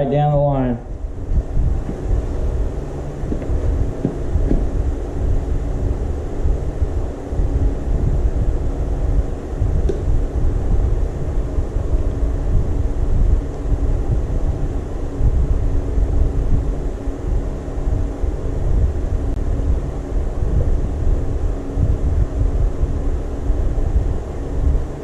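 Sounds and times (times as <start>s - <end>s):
faint steady hum: 0.0s - 25.0s
low rumble: 0.0s - 25.0s.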